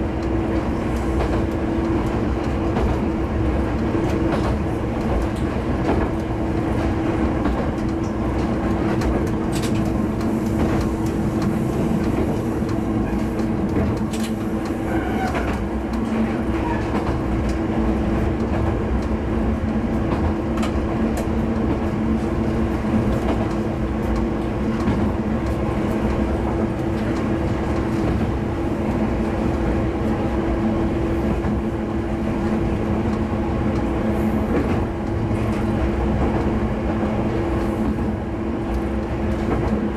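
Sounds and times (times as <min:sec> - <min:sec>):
diesel railcar engine drone: 0:00.0 - 0:39.9
wheels rumbling on track: 0:00.0 - 0:39.9.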